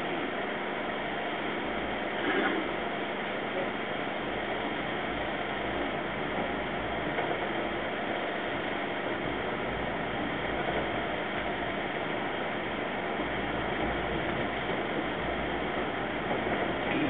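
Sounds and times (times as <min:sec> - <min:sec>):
train running noise from inside: 0:00.0 - 0:17.0.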